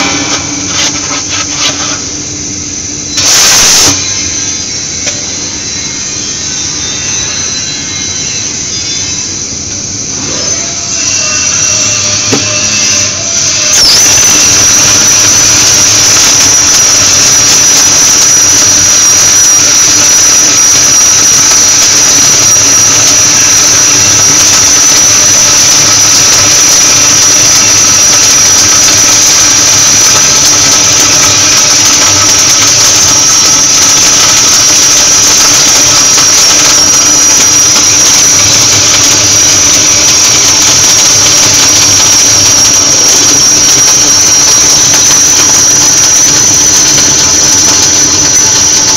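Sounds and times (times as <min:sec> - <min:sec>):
high steady whine: 0:00.0 - 0:48.9
welding arc crackling and hissing: 0:00.0 - 0:48.9.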